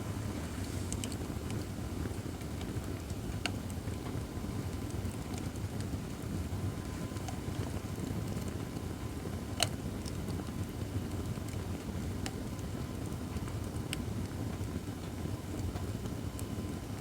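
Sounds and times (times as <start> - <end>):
low rumble of fire: 0.0 - 17.0.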